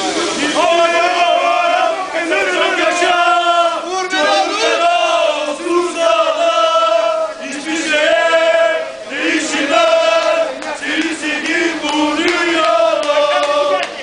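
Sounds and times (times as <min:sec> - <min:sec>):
football crowd chanting: 0:00.0 - 0:14.0.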